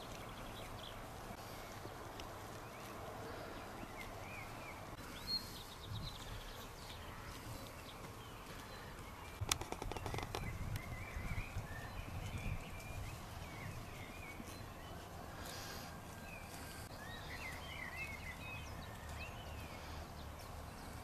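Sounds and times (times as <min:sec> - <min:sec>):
sheep tearing and chewing grass: 0:00.0 - 0:21.0
small birds chirping: 0:00.0 - 0:21.0.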